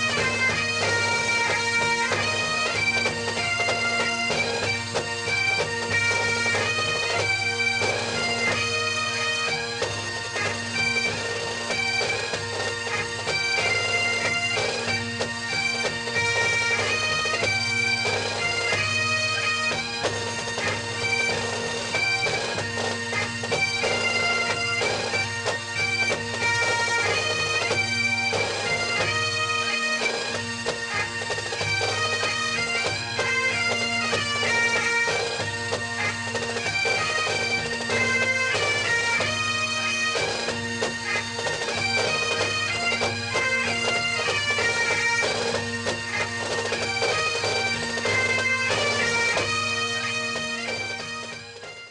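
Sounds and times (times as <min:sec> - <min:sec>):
bagpipe music: 0:00.0 - 0:51.9.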